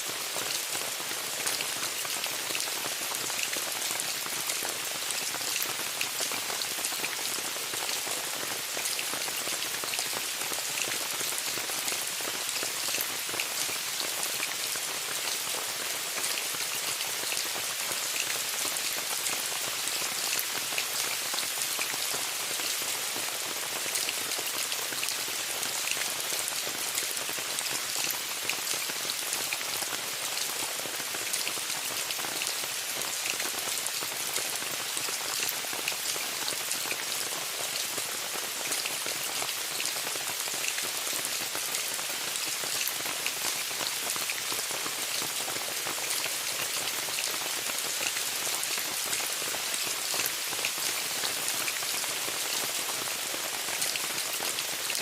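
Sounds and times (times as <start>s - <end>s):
rain pattering on tent fabric: 0.0s - 55.0s.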